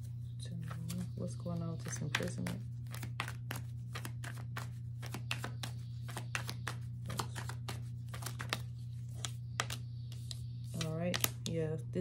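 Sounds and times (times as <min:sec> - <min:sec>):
steady low hum: 0:00.0 - 0:12.0
cards being shuffled: 0:00.6 - 0:11.6.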